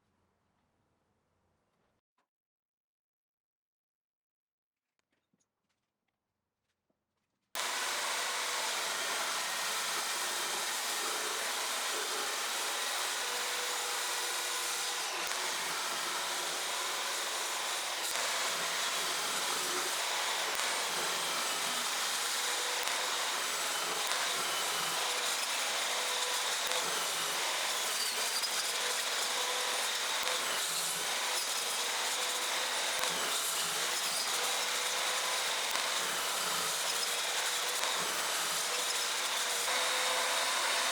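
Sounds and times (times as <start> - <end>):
power saw cutting wood: 7.6 - 40.9.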